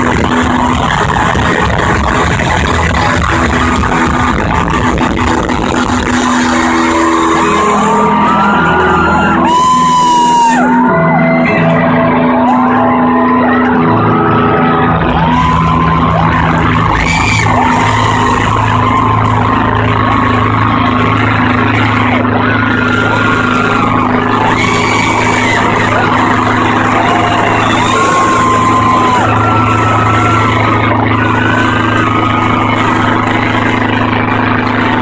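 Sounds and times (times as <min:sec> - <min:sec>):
crowd screaming and cheering: 0:00.0 - 0:35.0
steady low drone: 0:00.0 - 0:35.0.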